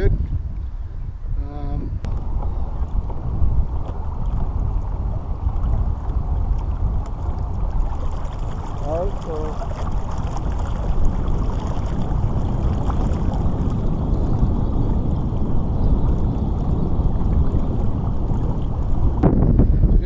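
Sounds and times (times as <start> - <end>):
wind rumble on microphone: 0.0 - 20.0
water lapping along kayak hull: 2.1 - 19.8.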